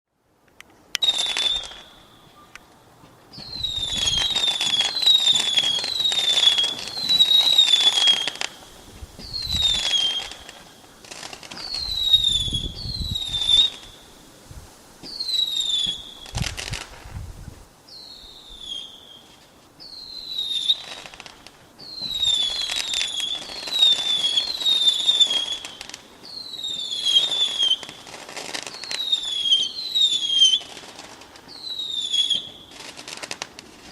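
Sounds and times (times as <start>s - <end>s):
fireworks crackling: 0.4s - 33.9s
deep fireworks rumbles: 0.9s - 33.9s
fireworks whistling: 0.9s - 33.9s.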